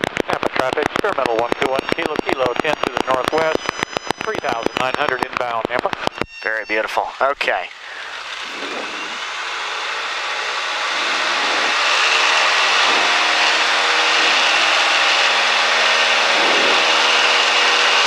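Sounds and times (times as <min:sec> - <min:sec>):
propeller plane engine at full power: 0:00.0 - 0:18.0.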